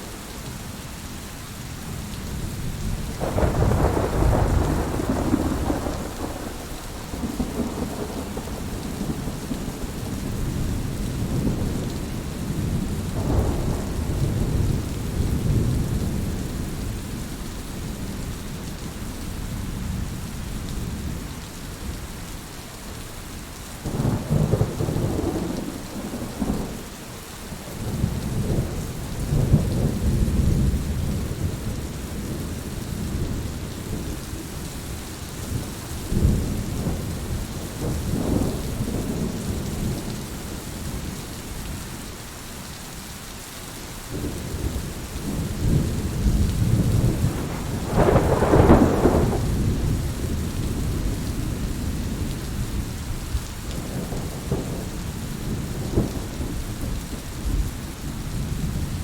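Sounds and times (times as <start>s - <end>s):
heavy rain falling: 0.0s - 59.0s
rolling thunder: 2.5s - 18.2s, 23.8s - 41.2s, 44.1s - 59.0s.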